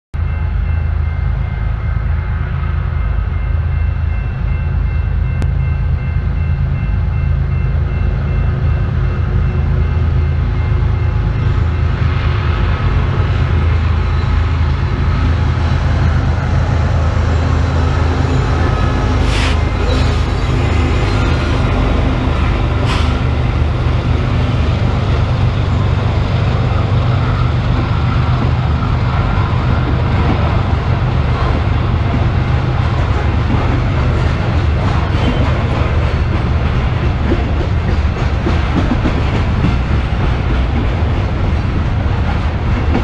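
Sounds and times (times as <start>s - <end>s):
freight train rumbling: 0.2s - 43.0s.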